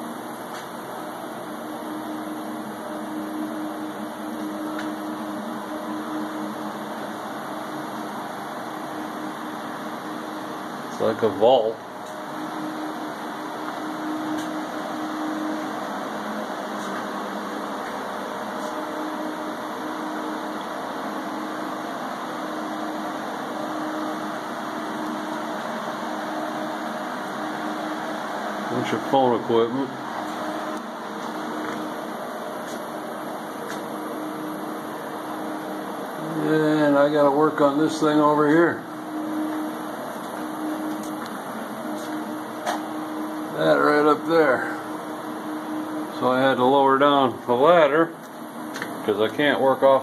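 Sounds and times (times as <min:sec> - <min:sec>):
fans whirring: 0:00.0 - 0:50.0
low steady drone: 0:00.0 - 0:50.0.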